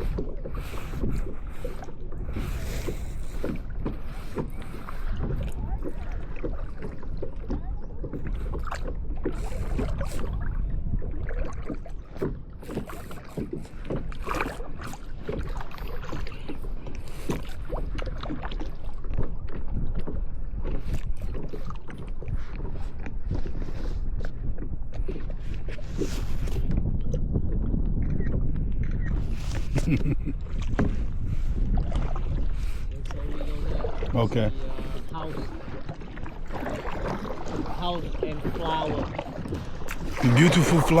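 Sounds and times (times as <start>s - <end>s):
paddles splashing in water: 0.0s - 41.0s.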